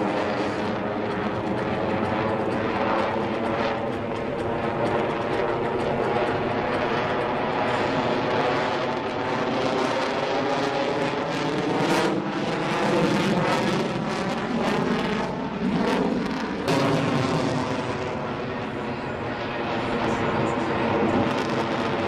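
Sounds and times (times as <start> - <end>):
jet flying overhead: 0.0 - 22.0.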